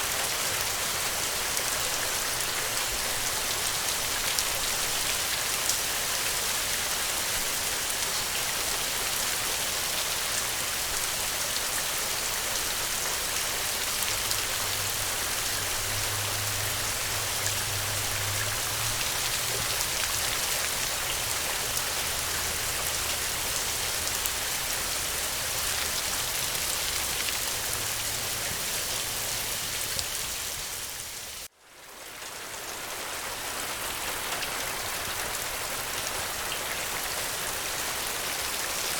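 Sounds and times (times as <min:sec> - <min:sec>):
rain falling on ground: 0:00.0 - 0:38.9.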